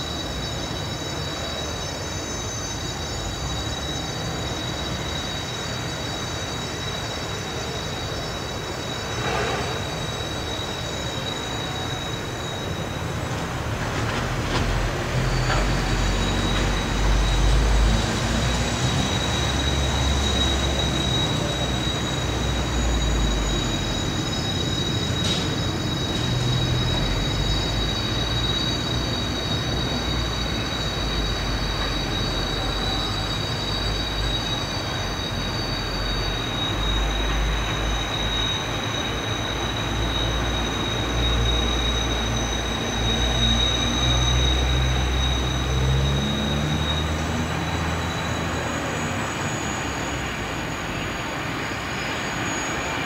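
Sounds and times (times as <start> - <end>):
freight train rumble: 0.0 - 53.0
high-pitched wheel squeal: 0.0 - 53.0.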